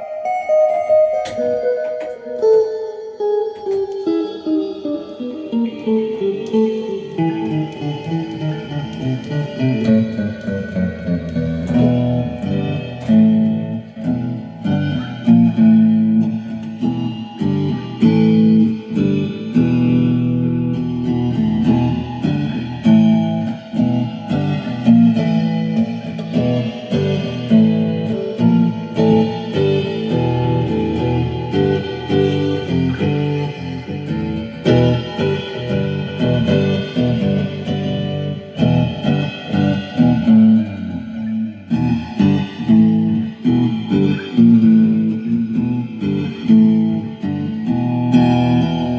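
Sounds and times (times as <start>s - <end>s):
guitar improvisation: 0.0s - 48.9s.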